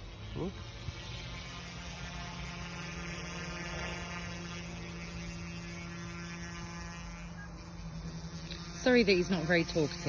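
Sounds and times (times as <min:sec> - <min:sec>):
rc helicopter rotor hum: 0:00.0 - 0:10.0.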